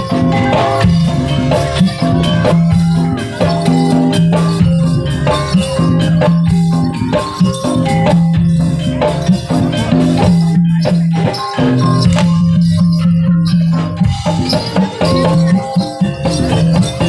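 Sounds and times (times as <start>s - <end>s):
gamelan-style ensemble playing: 0.0s - 17.0s.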